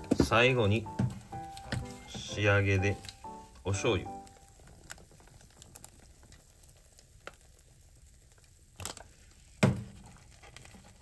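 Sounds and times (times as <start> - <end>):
sauce sizzling in frying pan: 0.7 - 10.1.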